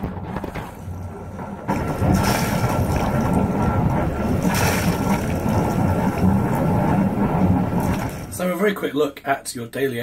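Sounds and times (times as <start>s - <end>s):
boat engine running: 0.0s - 8.4s
exhaust water splashing and gurgling: 0.0s - 8.6s.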